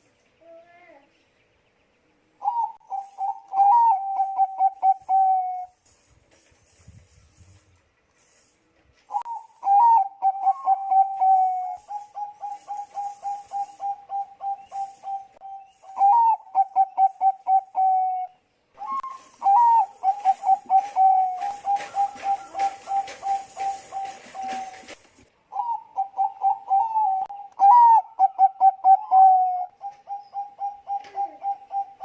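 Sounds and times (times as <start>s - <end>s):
dove cooing song: 2.4s - 5.8s, 9.1s - 32.0s.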